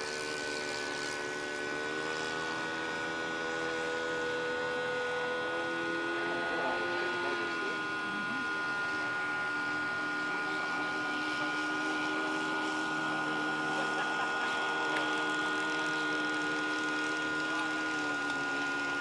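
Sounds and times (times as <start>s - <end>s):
model airplane engine running: 0.0s - 19.0s.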